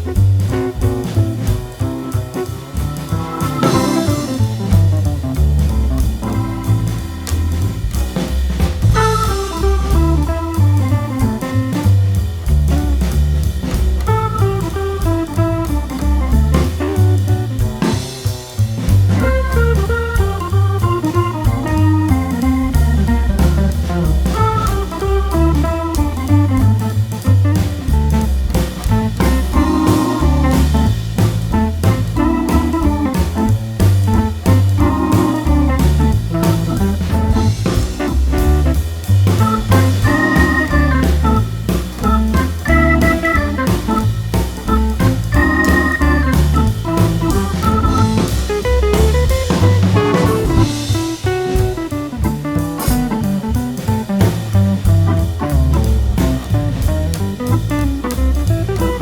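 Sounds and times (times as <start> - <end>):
jazz-blues band music: 0.0 - 59.0.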